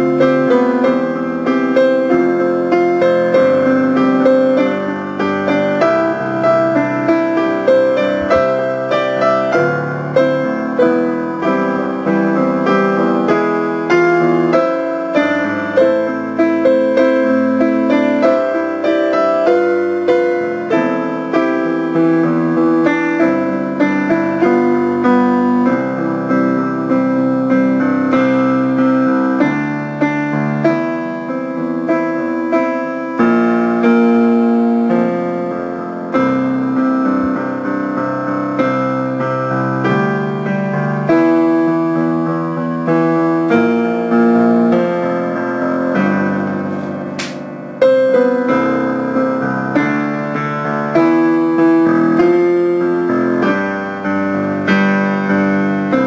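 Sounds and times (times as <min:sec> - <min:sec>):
piano keyboard playing: 0:00.0 - 0:56.0.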